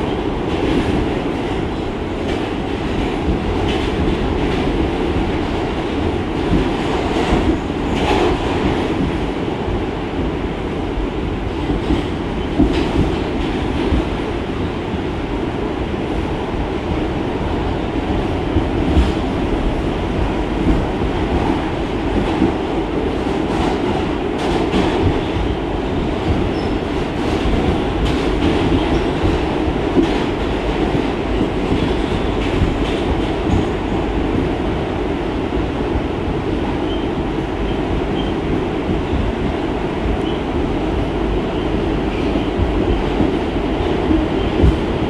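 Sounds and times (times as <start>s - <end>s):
train wheels on rail: 0.0s - 45.0s.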